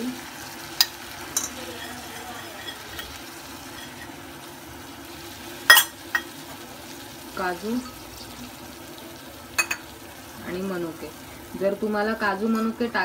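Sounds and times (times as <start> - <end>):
filling sizzling in a pan: 0.0 - 13.0.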